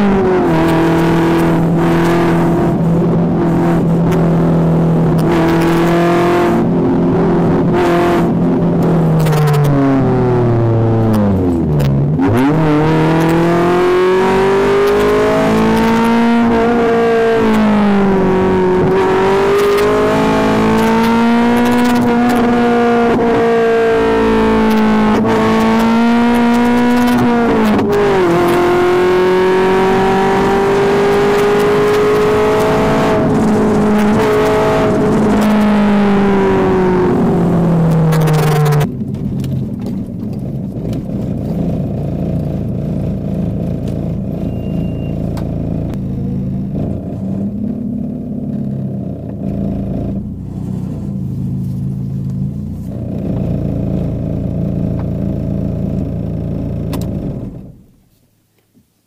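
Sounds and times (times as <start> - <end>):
car engine under load: 0.0 - 59.0.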